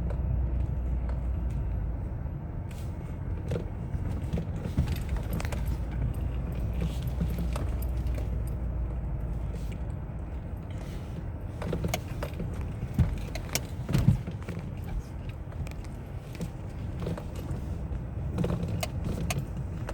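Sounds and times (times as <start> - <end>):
low vehicle rumble: 0.0 - 19.9
steering rack clunks: 3.4 - 19.9.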